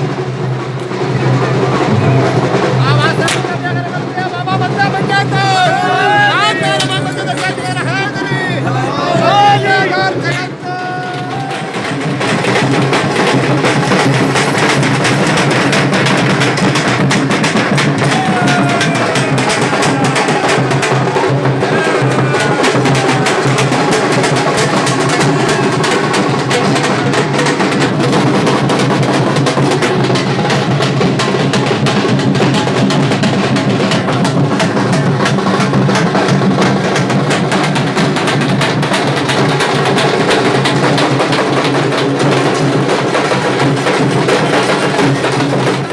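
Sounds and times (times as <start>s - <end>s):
music: 0.0s - 10.1s, 10.8s - 45.9s
loud continuous drumming: 0.0s - 45.9s.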